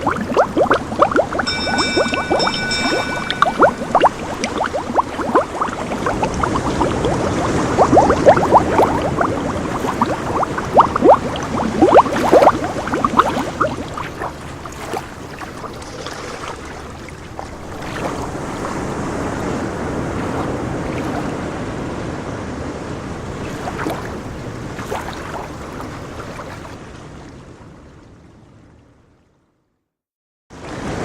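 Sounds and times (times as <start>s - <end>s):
rushing water: 0.0s - 27.4s.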